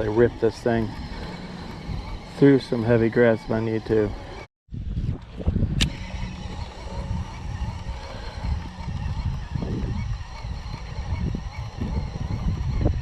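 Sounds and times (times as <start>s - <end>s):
faint wavering whine: 0.0s - 13.0s
wind buffeting microphone: 0.0s - 13.0s.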